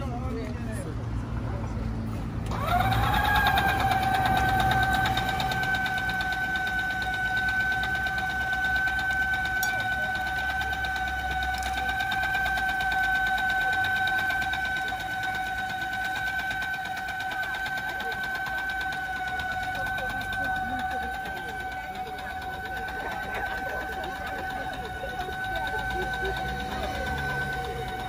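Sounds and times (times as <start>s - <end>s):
juicer motor whine: 0.0s - 28.0s
rollers and gears rattling: 0.0s - 28.0s.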